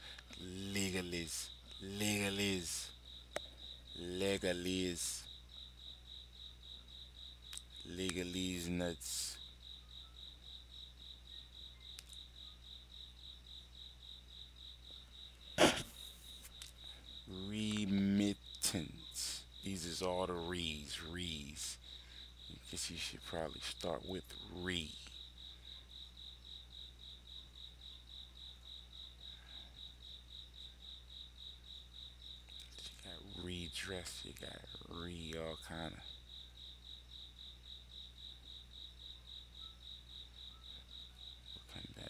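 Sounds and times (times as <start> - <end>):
cricket chirping: 0.0 - 42.0
low electrical hum: 0.0 - 42.0.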